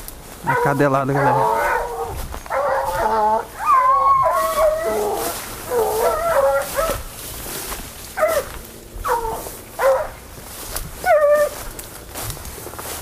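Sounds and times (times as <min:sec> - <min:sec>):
hunting dogs baying: 0:00.3 - 0:11.8.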